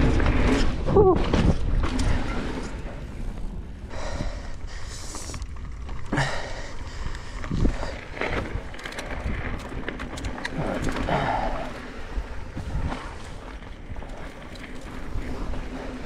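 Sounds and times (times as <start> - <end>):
bike clicks and rattles: 0.0 - 16.0
tyre and wind noise: 0.0 - 16.0.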